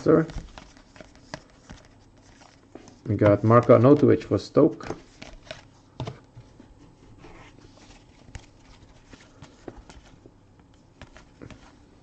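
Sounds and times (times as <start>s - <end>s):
cards tapping and rustling: 0.0s - 6.6s, 7.7s - 11.9s.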